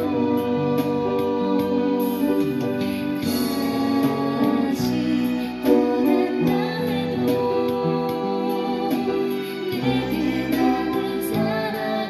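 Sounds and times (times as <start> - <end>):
upright piano playing: 0.0 - 12.0.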